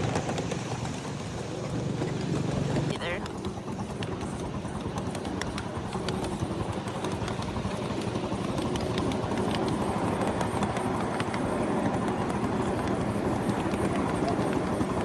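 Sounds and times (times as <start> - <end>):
miniature train wheels rumbling: 0.0 - 15.0.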